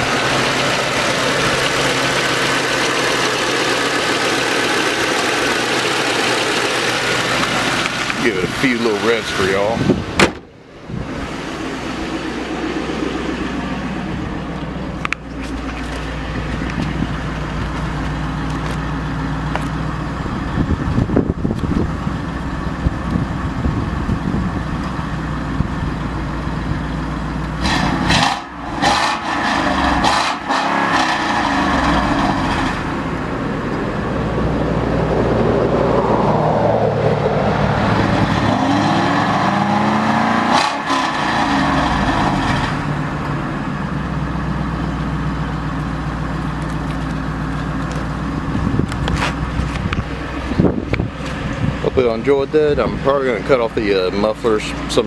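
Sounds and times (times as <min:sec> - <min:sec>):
car exhaust idling and revving: 0:00.0 - 0:55.0.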